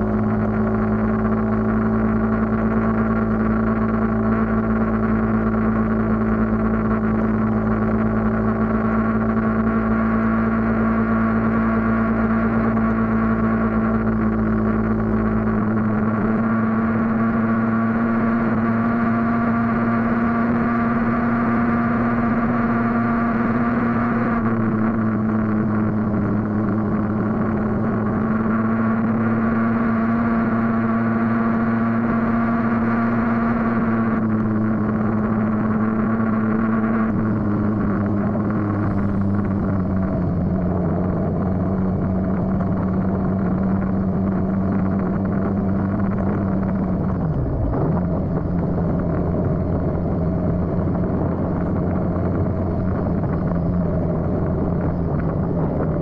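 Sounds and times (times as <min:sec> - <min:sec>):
deep low rumble: 0:00.0 - 0:56.0
road noise: 0:00.0 - 0:56.0
vehicle engine humming: 0:00.0 - 0:56.0.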